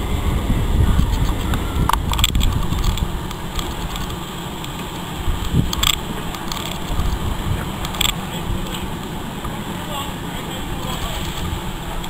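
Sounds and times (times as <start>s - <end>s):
steam engine rumbling past: 0.0s - 12.0s.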